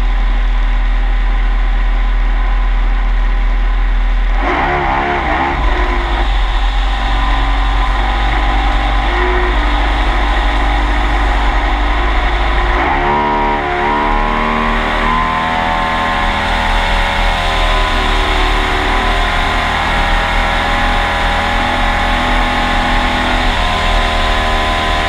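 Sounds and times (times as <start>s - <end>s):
outboard motor running: 1.2s - 25.0s.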